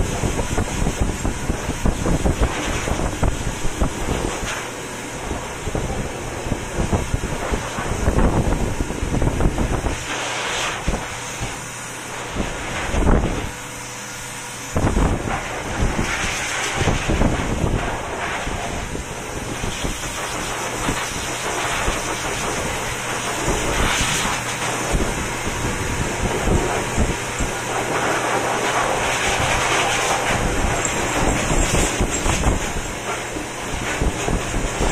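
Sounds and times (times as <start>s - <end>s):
wind buffeting microphone: 0.0s - 4.5s, 5.3s - 10.0s, 12.4s - 13.6s, 14.7s - 22.8s, 23.4s - 27.9s, 29.2s - 34.9s
blow dryer air rushing: 0.0s - 34.9s.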